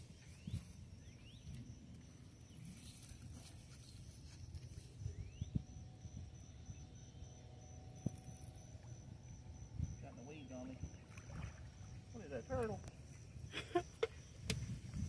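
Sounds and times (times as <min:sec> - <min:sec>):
pulsing insect trill: 0:00.0 - 0:15.0.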